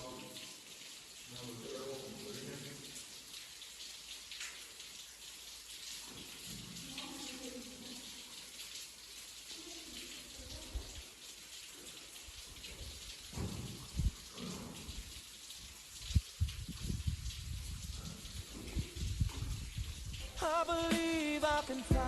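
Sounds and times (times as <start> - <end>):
water dripping: 0.0 - 22.0.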